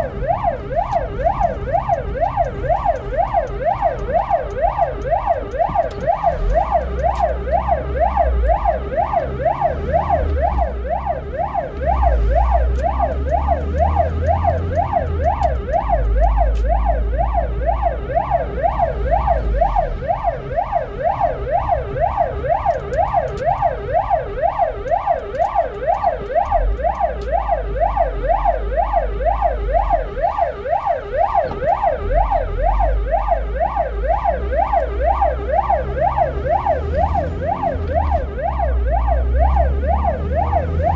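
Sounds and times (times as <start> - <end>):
ambulance siren yelping: 0.0 - 40.9
low rumble of moving vehicle: 0.0 - 40.9.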